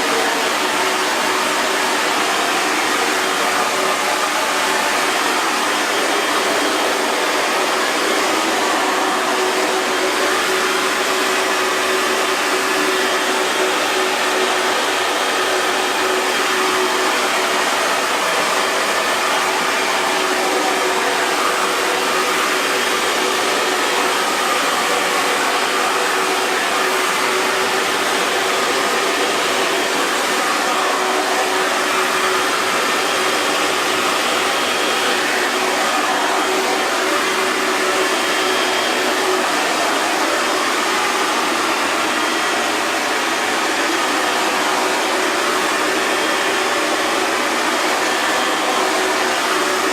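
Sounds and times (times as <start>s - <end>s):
hair dryer blowing: 0.0s - 49.9s.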